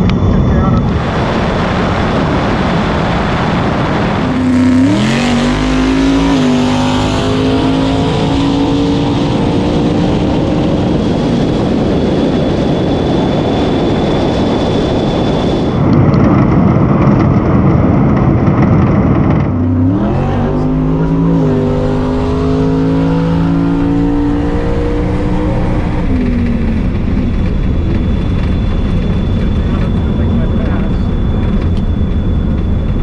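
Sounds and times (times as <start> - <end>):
rushing noise: 0.0 - 33.0.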